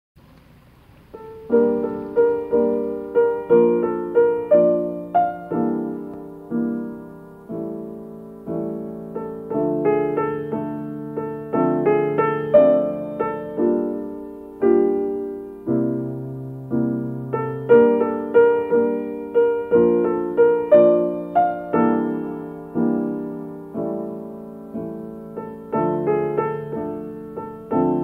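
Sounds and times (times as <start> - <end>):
slow piano music: 0.3 - 28.0.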